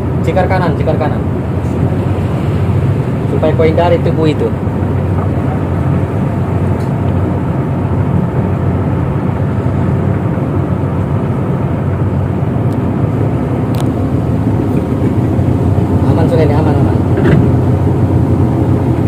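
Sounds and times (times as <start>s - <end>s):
boat diesel engines droning: 0.0s - 19.0s.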